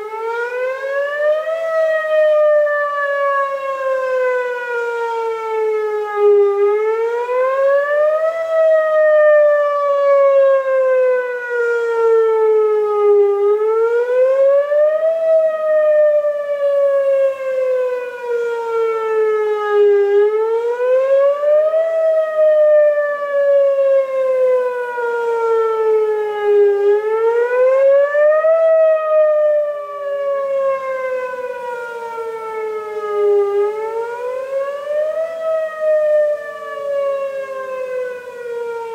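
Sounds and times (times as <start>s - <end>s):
faint second siren: 0.0s - 38.9s
warning siren wailing: 0.0s - 38.9s.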